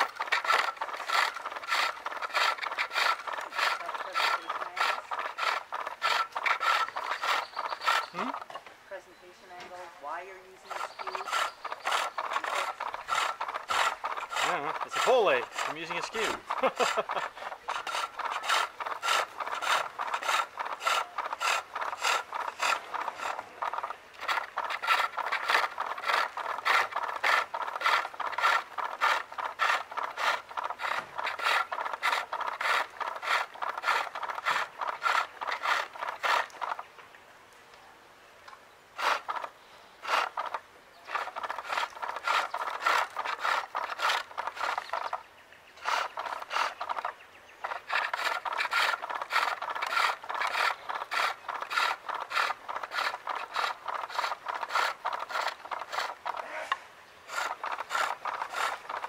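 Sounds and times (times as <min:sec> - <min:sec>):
chisel shaving wood on lathe: 0:00.0 - 0:08.6, 0:10.6 - 0:36.8, 0:39.0 - 0:45.2, 0:45.8 - 0:56.4, 0:57.3 - 0:59.0.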